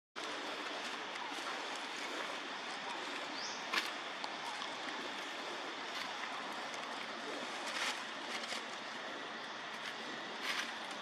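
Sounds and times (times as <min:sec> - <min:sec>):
outdoor background hiss: 0:00.2 - 0:11.0
dry leaves rustling: 0:00.4 - 0:11.0.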